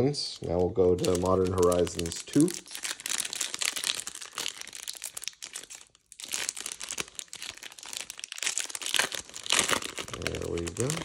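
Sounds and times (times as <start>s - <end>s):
foil wrapper crinkling: 0.4s - 11.0s.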